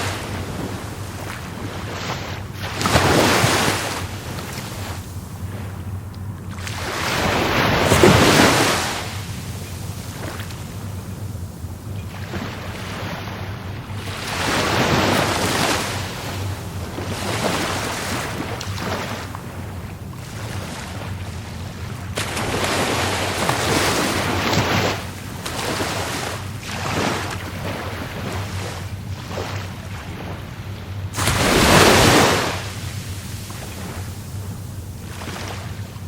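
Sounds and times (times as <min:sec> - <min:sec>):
low wind rumble on microphone: 0:00.0 - 0:36.0
sea surf breaking on shore: 0:00.0 - 0:36.0.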